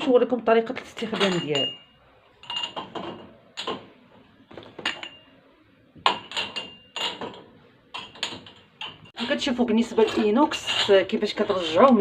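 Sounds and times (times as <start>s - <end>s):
dishes and kitchenware clinking: 0.7s - 5.4s, 6.0s - 12.0s.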